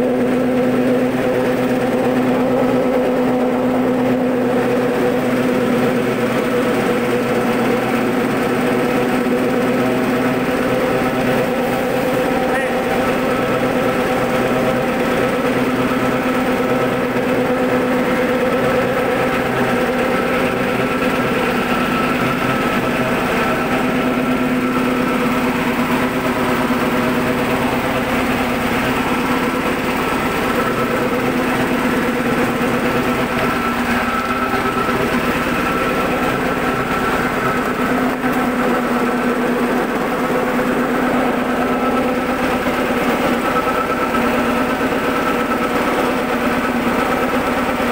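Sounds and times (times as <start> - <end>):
machine humming: 0.0 - 47.9.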